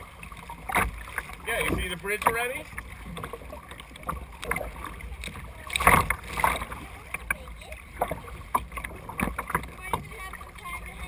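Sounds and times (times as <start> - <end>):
paddle strokes splashing: 0.0 - 11.0.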